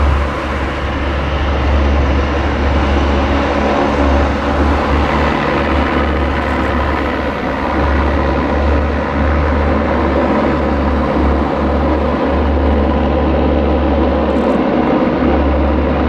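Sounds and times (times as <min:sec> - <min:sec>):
turboprop engines running: 0:00.0 - 0:16.0.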